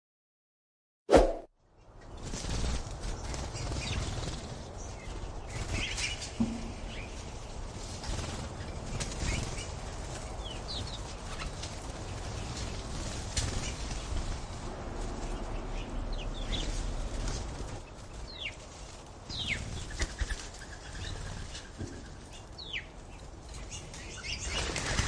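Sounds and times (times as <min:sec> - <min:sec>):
bird wings flapping: 0:02.1 - 0:15.4, 0:16.4 - 0:22.4, 0:23.4 - 0:25.0.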